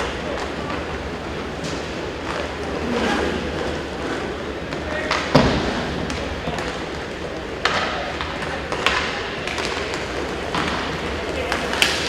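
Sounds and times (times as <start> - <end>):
arena background noise: 0.0 - 12.0
hockey sticks and puck clacking: 0.0 - 12.0.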